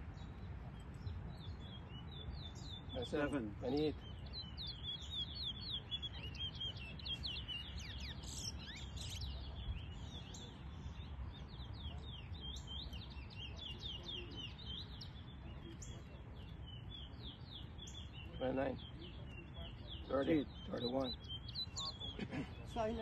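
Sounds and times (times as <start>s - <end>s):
songbirds chirping and twittering: 0.0s - 23.0s.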